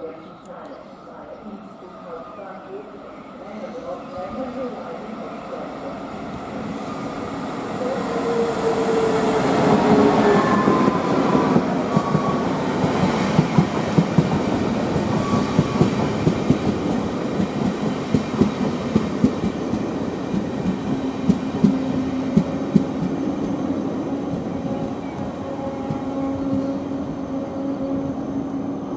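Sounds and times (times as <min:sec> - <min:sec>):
train passing: 0:00.0 - 0:28.9.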